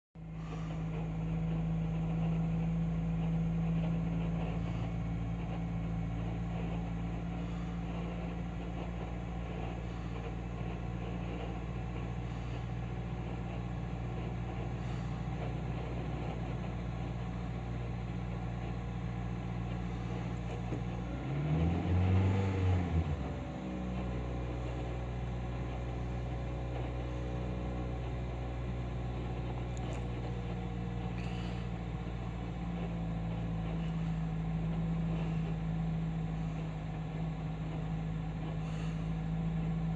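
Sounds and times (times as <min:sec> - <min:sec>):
car engine idling: 0:00.2 - 0:39.9.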